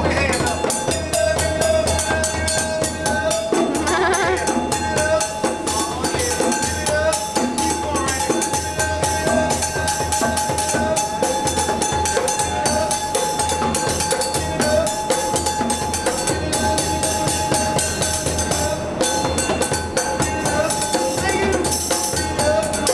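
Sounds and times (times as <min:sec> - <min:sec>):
djembe played by hand: 0:00.0 - 0:22.9.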